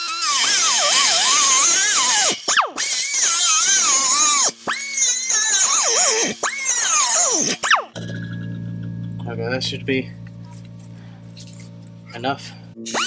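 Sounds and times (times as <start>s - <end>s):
cut-off wheel cutting metal pipe: 0.0s - 8.1s, 10.2s - 13.0s.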